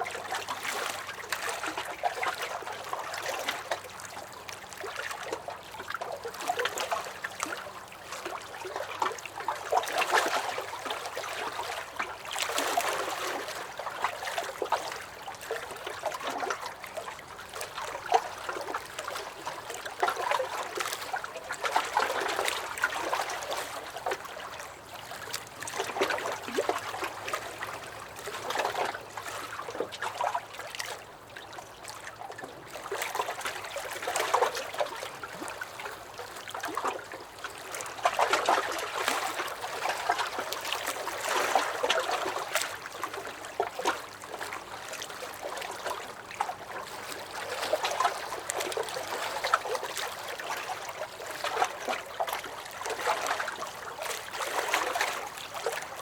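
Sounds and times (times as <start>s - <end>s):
waves lapping against a dock: 0.0s - 56.0s.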